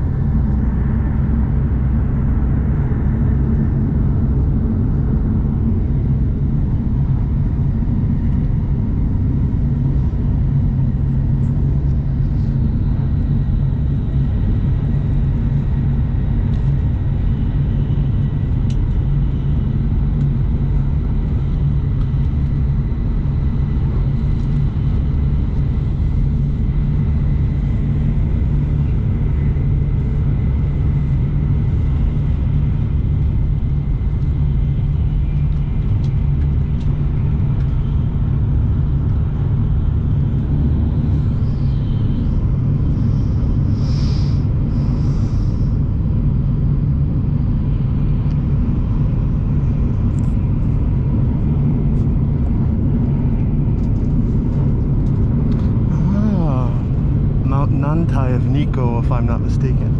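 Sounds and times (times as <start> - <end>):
faint steady whine: 0.0 - 59.9
train rumbling at speed: 0.0 - 59.9.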